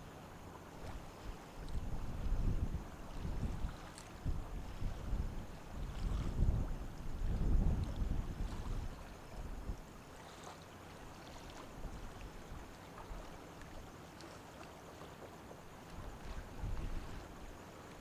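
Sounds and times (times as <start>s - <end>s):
water lapping and gurgling: 0.0s - 18.0s.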